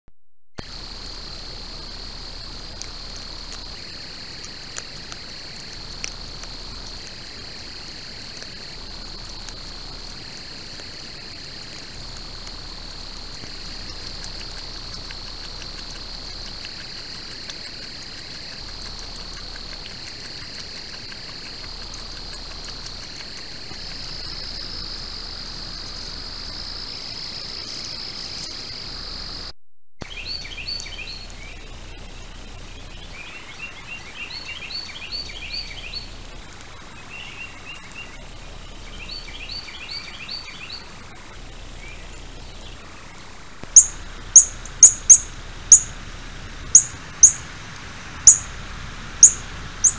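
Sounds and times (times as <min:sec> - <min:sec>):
songbird chirping: 0:00.6 - 0:29.4, 0:30.0 - 0:49.9
night insects trilling: 0:00.6 - 0:49.9.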